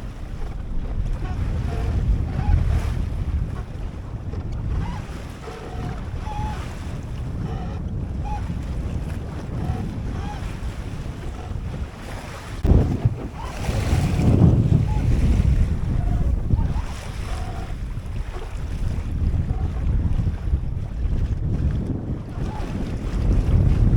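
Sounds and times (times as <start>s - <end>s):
water rushing along hull: 0.0s - 23.9s
wind buffeting microphone: 0.0s - 23.9s.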